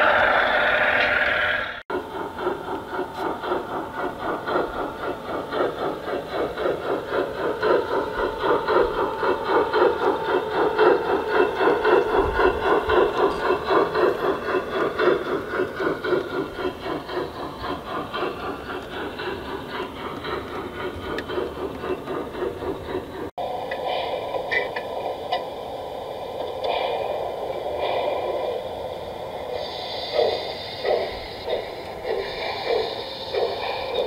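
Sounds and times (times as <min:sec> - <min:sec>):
model steam train running on track: 0:00.0 - 0:34.0.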